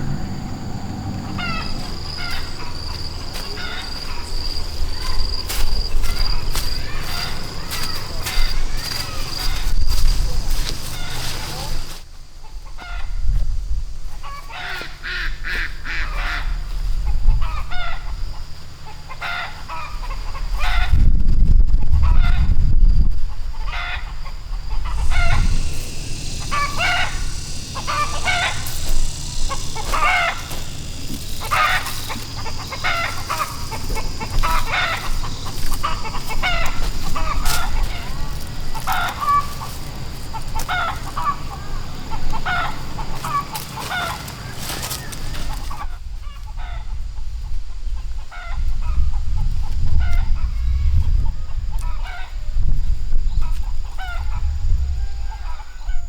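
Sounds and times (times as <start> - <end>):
chickens clucking: 0.0 - 13.1, 14.1 - 21.1, 21.8 - 52.6.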